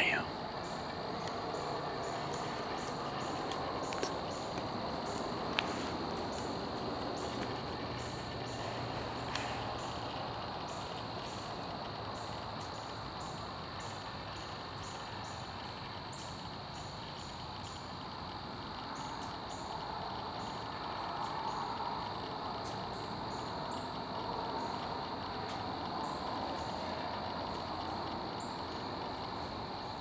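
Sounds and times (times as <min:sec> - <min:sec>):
crickets chirping: 0:00.0 - 0:30.0
steady background hiss: 0:00.0 - 0:30.0.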